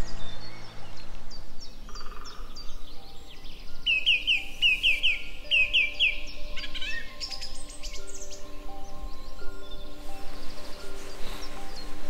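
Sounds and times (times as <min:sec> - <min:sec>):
buzzy bird trill: 0:01.8 - 0:12.0.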